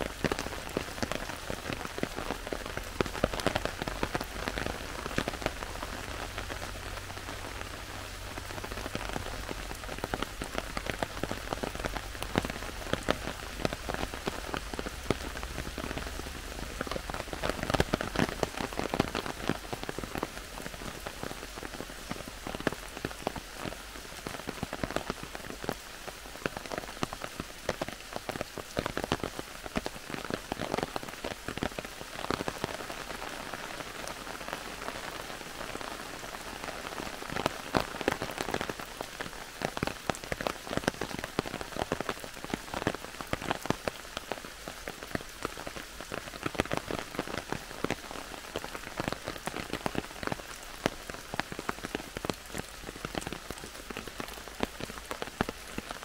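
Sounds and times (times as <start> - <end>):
heavy rain in a forest: 0.0 - 56.0.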